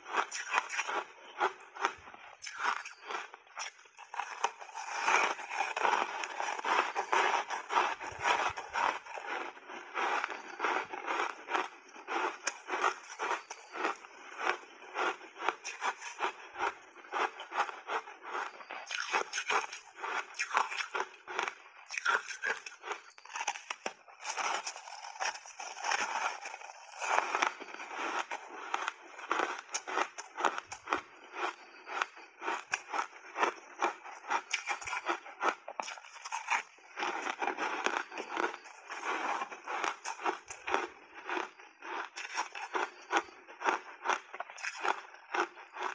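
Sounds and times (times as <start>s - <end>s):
crunching ice chewing: 0.0s - 45.9s.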